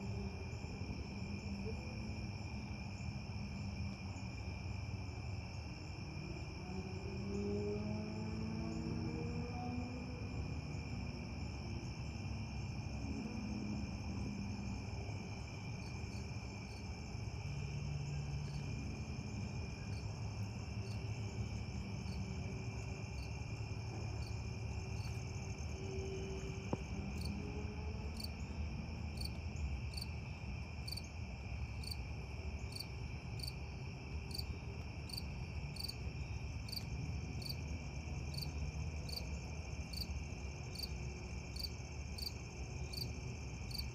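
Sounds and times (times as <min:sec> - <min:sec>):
cricket chirps: 0:00.0 - 0:43.9
crickets trilling: 0:00.0 - 0:43.9.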